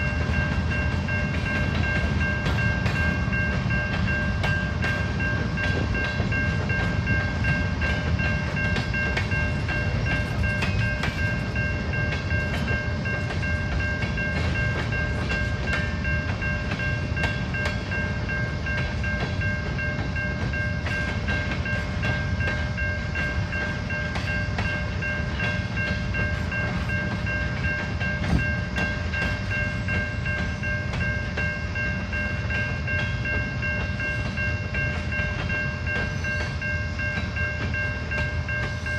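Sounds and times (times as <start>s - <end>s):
high ringing tones: 0.0s - 38.9s
train wheels rumbling on rail: 0.0s - 38.9s.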